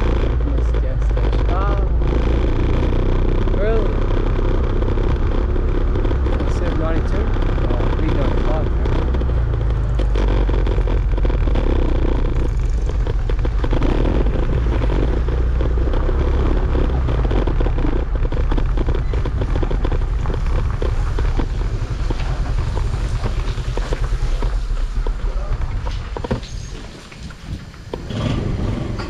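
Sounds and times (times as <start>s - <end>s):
motorbike engine: 0.0s - 29.0s
road noise: 0.0s - 29.0s
wind rumble on microphone: 0.0s - 29.0s.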